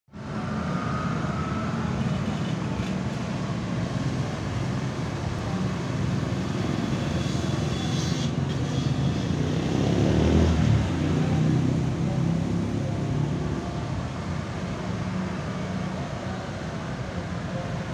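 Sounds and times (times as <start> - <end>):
road traffic passing: 0.1 - 17.9.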